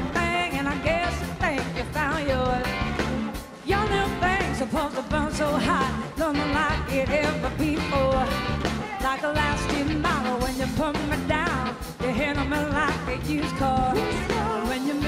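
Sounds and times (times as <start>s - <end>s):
blues-rock band playing: 0.0s - 15.0s
woman singing lead vocal: 0.0s - 15.0s.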